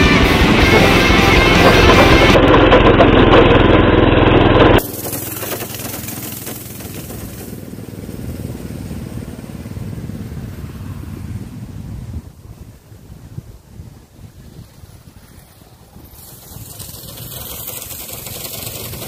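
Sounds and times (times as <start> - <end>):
motorcycle engine running: 0.0 - 11.4, 14.4 - 19.0
motorcycle riding away: 0.0 - 12.2, 14.6 - 19.0.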